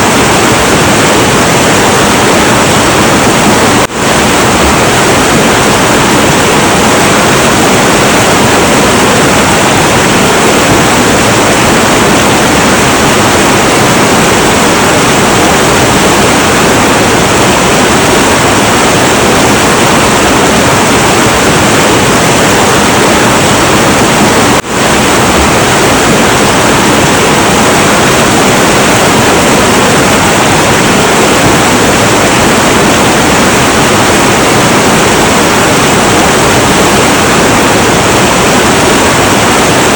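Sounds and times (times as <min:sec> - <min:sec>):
river water rushing roar: 0:00.0 - 0:39.9.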